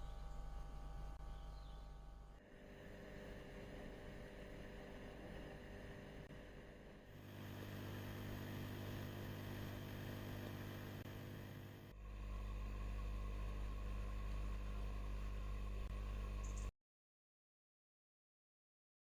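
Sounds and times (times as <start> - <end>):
air pumps humming and hissing: 0.0 - 16.7.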